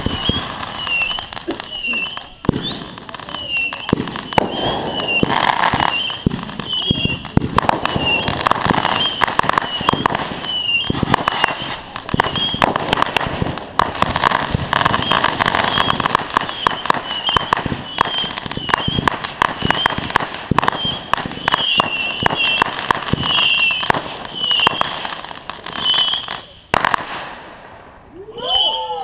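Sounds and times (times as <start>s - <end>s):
fireworks crackling and popping: 0.0s - 28.9s.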